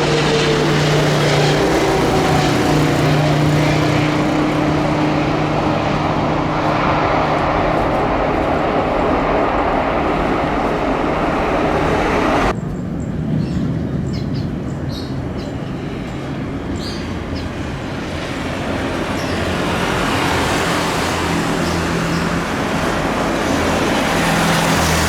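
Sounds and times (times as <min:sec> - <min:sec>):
airliner engines passing: 0:00.0 - 0:25.0.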